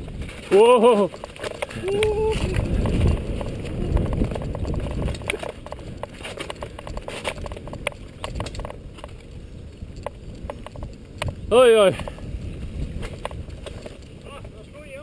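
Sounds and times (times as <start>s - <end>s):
tyres crunching over loose rock: 0.0s - 14.6s
bike rattling: 0.0s - 15.0s.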